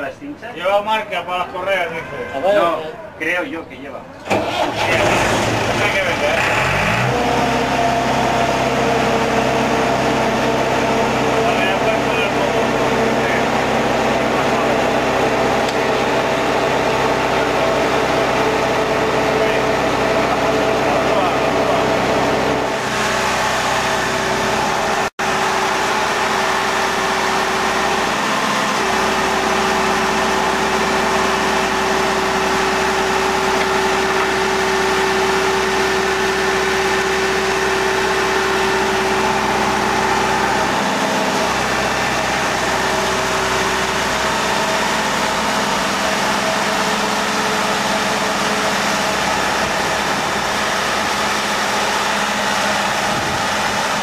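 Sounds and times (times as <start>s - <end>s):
boat hoist engine running: 4.2s - 54.0s.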